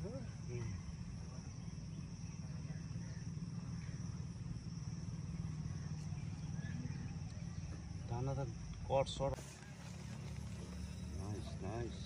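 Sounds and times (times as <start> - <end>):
constant low rumble: 0.0 - 12.0
high-pitched insect drone: 0.0 - 12.0.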